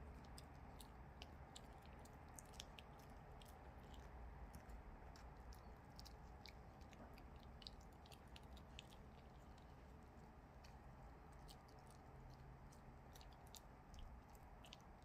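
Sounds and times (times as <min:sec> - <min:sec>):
dog chewing: 0:00.0 - 0:15.0.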